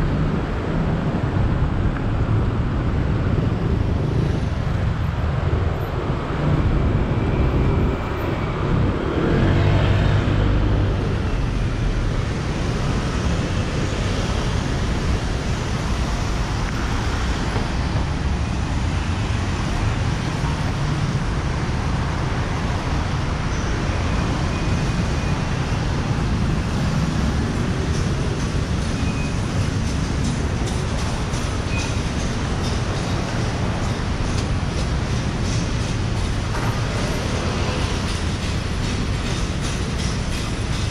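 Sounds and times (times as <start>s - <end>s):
rumble of passing road traffic: 0.0s - 40.9s.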